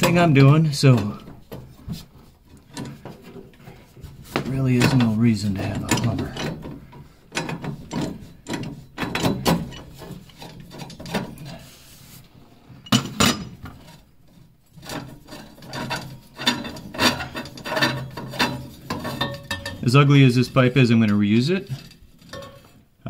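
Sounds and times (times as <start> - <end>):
corroded pipe threads scraping: 0.0 - 12.4, 13.6 - 22.8.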